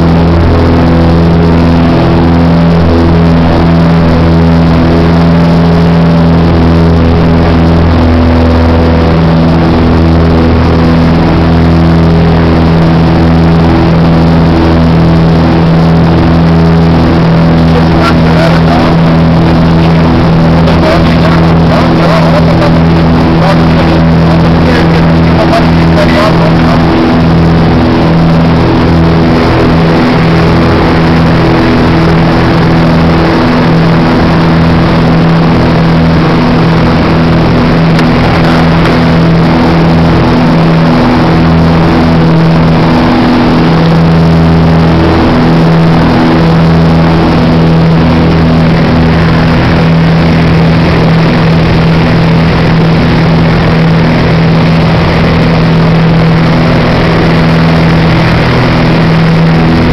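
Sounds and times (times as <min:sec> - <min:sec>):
propeller aircraft engines droning: 0:00.0 - 0:59.9.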